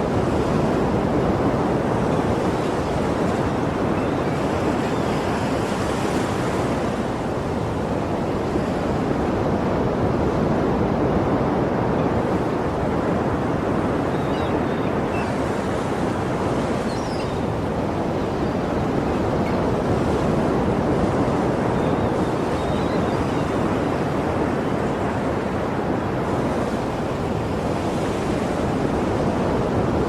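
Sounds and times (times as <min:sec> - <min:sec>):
sea surf washing: 0:00.0 - 0:30.0.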